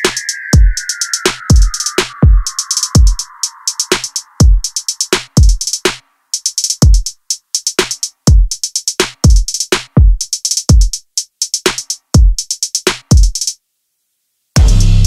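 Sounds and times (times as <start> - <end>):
electronic music drum-machine beat: 0.0 - 13.6, 14.6 - 15.0.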